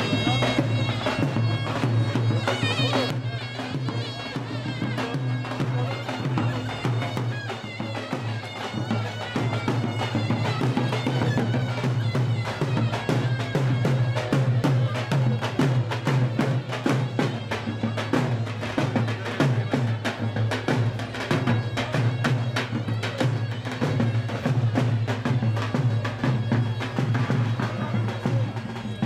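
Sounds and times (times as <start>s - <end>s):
drum beat: 0.0s - 29.0s
reedy wind instrument melody: 0.0s - 29.0s.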